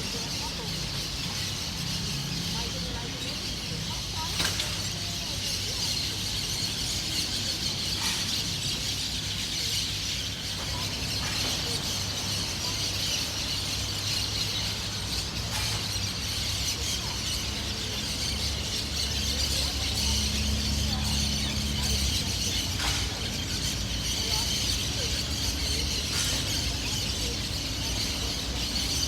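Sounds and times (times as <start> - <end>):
many birds calling: 0.0 - 29.0.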